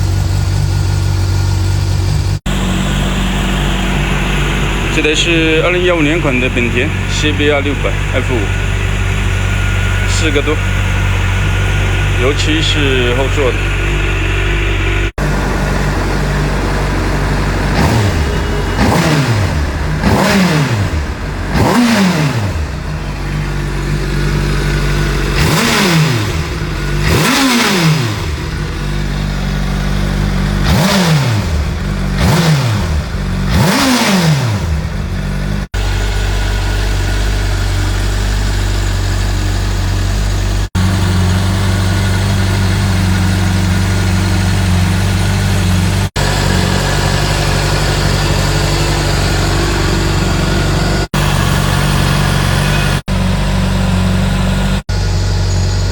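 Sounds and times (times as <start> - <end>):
motorcycle engine idling: 0.0 - 55.9
motorcycle engine revving: 0.0 - 55.9.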